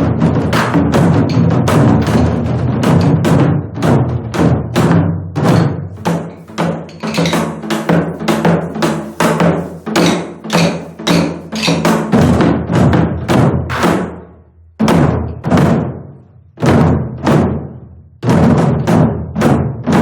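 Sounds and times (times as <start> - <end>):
barrel drums struck with sticks: 0.0 - 16.0.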